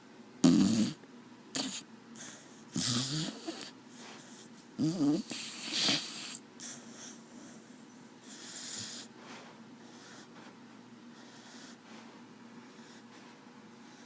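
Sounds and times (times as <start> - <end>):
dog snoring softly: 0.4 - 14.0.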